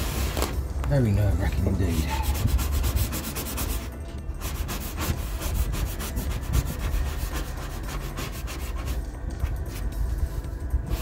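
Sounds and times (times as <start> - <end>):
squeegee scraping over tape: 0.0 - 0.6, 2.0 - 11.0.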